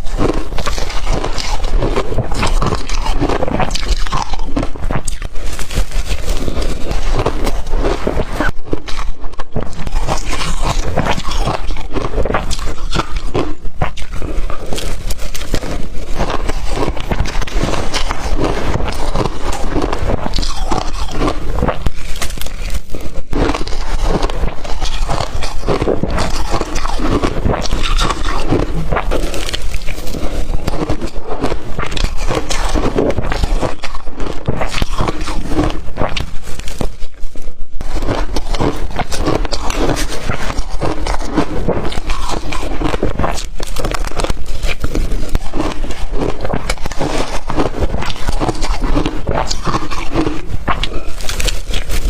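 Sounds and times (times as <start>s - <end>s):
chewing crushed ice: 0.0s - 52.0s.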